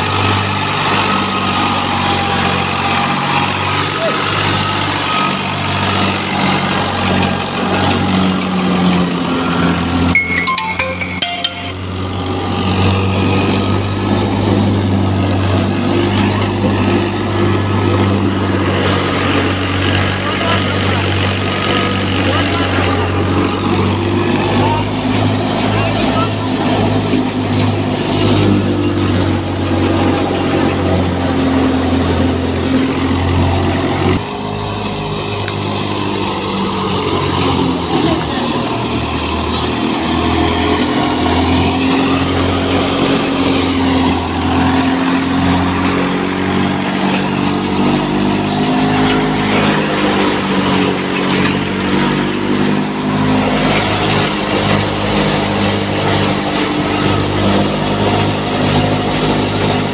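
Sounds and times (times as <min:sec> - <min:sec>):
thresher machine droning: 0:00.0 - 0:10.1, 0:11.8 - 0:59.9.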